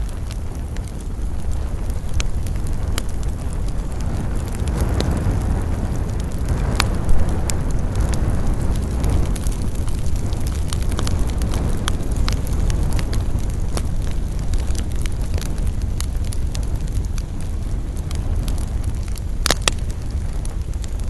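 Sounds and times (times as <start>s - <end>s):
fire crackling and rumbling: 0.0s - 21.0s.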